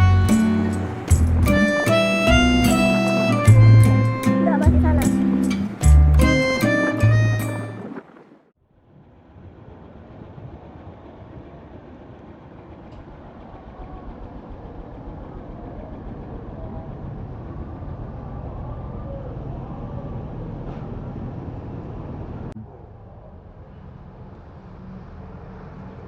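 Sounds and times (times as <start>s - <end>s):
vehicle road noise rumble: 0.0s - 26.0s.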